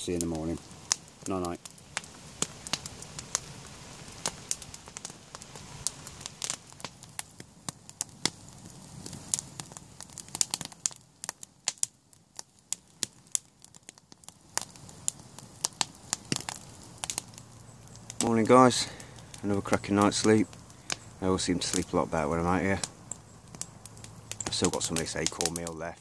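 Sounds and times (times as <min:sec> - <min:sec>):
campfire crackling and snapping: 0:00.0 - 0:26.0.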